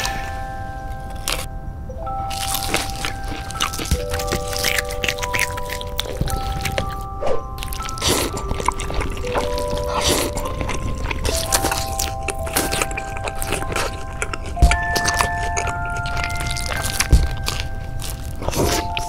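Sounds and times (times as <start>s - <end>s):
crackly bites and chewing: 0.0s - 19.0s
soft background music: 0.0s - 19.0s.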